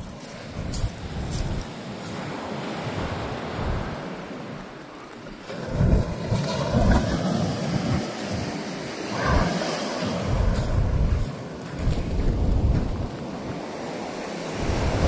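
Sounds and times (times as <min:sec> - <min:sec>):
sea surf washing onto beach: 0:00.0 - 0:15.0
wind buffeting microphone: 0:00.0 - 0:15.0.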